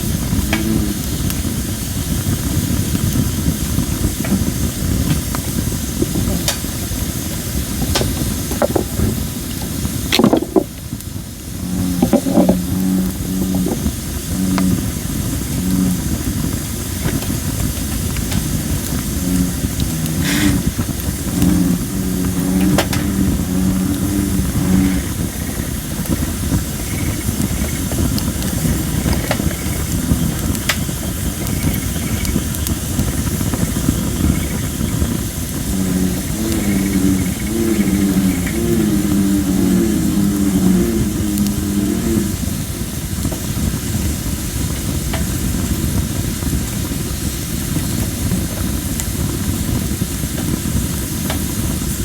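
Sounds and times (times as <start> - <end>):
bullfrogs croaking: 0.0 - 45.5
wood fire crackling and popping: 0.0 - 52.0.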